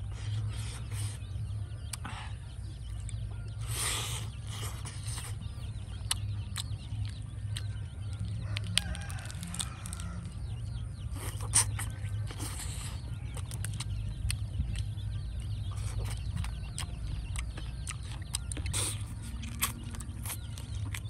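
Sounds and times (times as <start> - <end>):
chickens clucking: 0.0 - 21.0
low rumble: 0.0 - 21.0.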